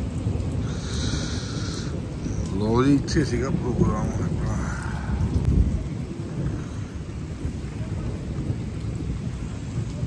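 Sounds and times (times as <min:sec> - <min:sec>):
heavy rain hissing: 0:00.0 - 0:10.0
thunder rumbling: 0:00.0 - 0:10.0.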